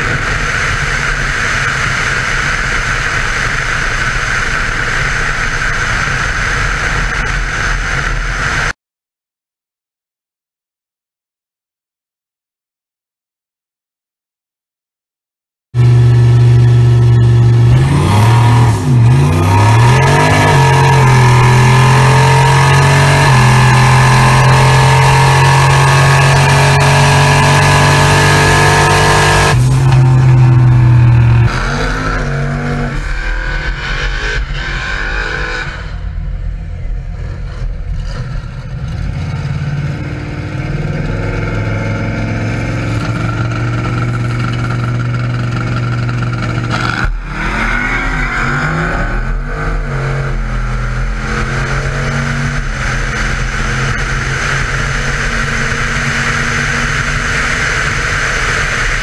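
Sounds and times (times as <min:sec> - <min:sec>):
car engine at high revs: 0:00.0 - 0:08.8, 0:15.8 - 0:59.0.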